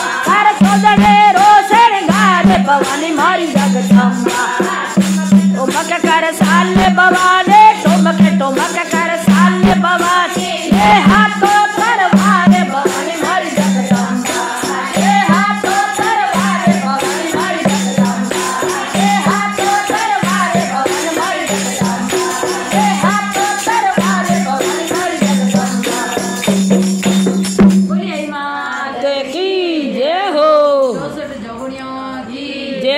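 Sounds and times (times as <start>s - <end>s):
hand drum beat: 0.0s - 28.3s
jingling hand percussion: 0.0s - 32.6s
women singing devotional song: 0.0s - 32.9s.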